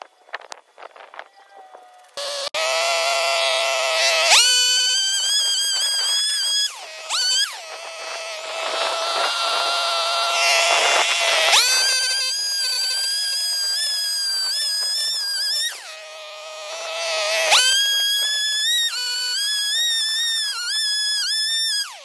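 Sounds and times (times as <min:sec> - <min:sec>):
two-stroke auger engine revving: 0:02.1 - 0:22.0.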